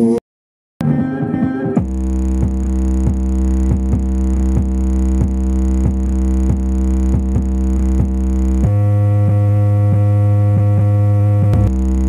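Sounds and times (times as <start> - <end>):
electronic music with heavy bass: 0.8 - 12.0.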